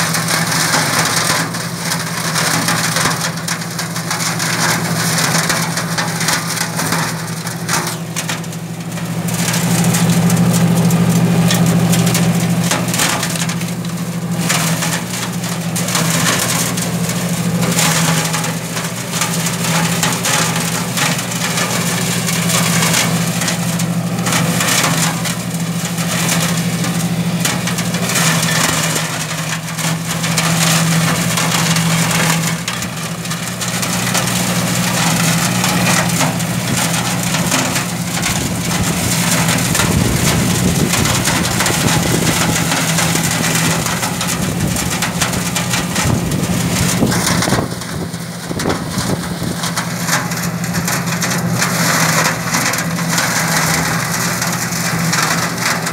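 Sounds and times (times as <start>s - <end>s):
branches crackling in flail mower: 0.0s - 55.9s
tractor engine and rotor hum: 0.0s - 55.9s.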